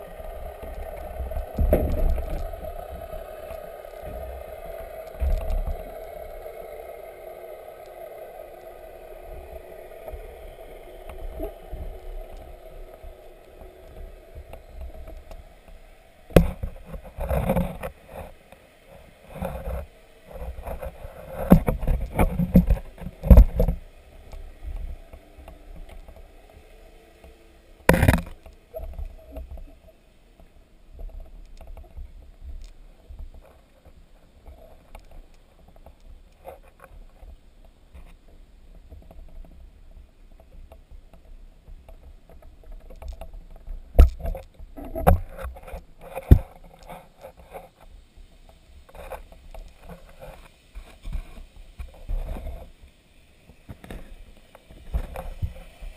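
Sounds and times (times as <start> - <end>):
underwater knocks and scrapes: 0.0 - 6.5, 11.0 - 26.5, 27.2 - 52.8, 53.5 - 55.9
steady hum: 0.0 - 55.9.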